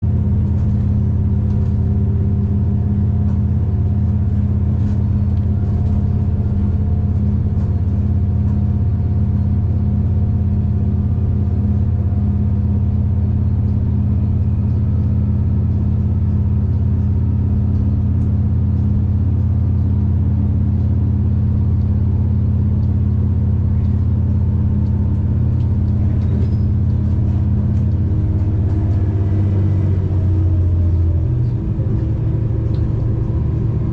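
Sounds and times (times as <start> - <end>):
diesel train engine drone: 0.0 - 33.9.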